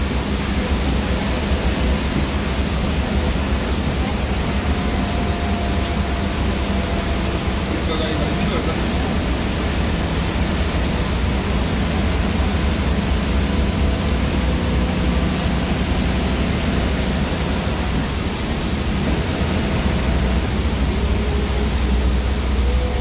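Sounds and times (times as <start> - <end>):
bus engine rumble: 0.0 - 23.0
rain on bus: 0.0 - 23.0
tyres on wet road: 0.0 - 23.0.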